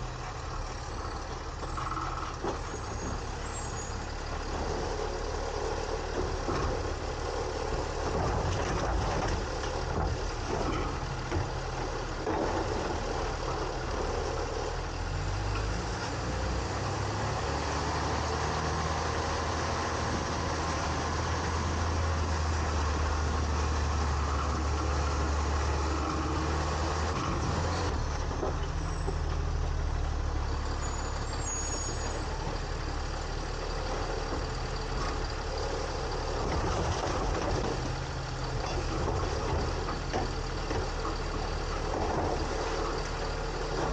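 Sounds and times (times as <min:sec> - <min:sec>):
garbage truck engine humming: 0:00.0 - 0:43.9
clunks and rattles: 0:00.6 - 0:16.4, 0:17.6 - 0:29.8, 0:30.4 - 0:43.9.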